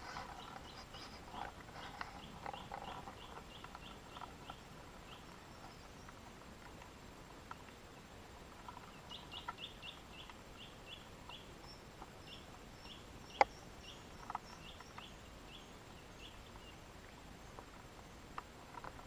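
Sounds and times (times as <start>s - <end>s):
bird chirping: 0.0s - 6.2s, 8.7s - 18.3s.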